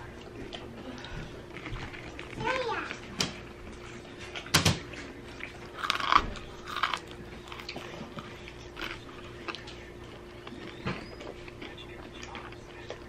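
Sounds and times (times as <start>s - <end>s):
chewing and crunching fried food: 0.0s - 13.0s.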